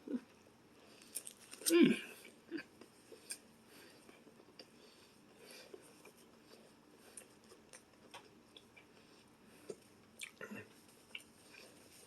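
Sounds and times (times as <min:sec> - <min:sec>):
person chewing quietly: 0:00.0 - 0:12.0.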